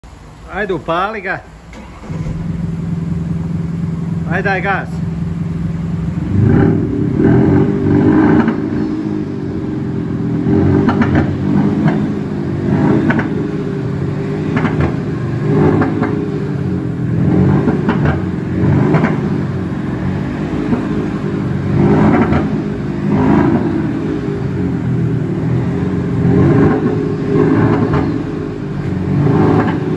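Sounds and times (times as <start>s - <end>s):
car engine revving: 1.7s - 29.9s
synthetic exhaust note: 1.8s - 29.4s.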